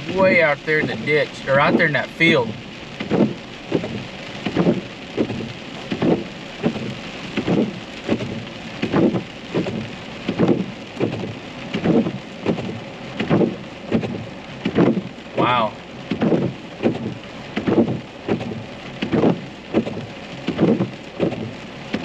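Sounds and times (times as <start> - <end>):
rain hitting windshield: 0.0 - 22.0
wiper blades sweeping: 0.0 - 22.0.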